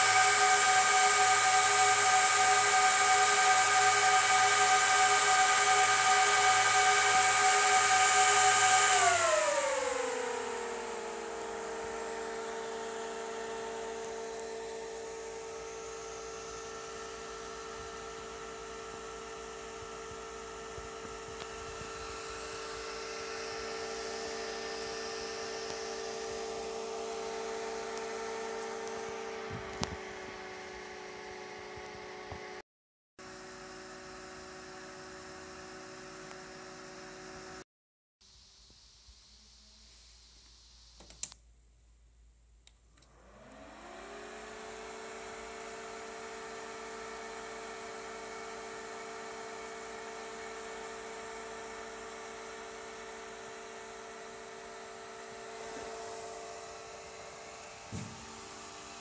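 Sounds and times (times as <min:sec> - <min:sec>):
server cooling fans whining: 0:00.0 - 0:32.6, 0:33.3 - 0:37.6, 0:42.8 - 0:59.0.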